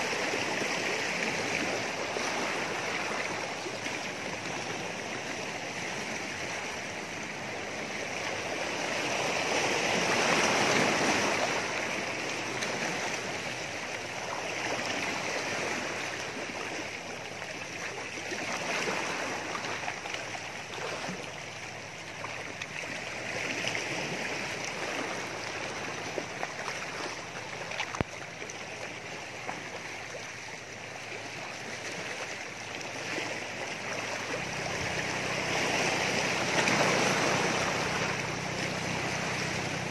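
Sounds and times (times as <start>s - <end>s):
waves lapping against rocks: 0.0s - 39.9s.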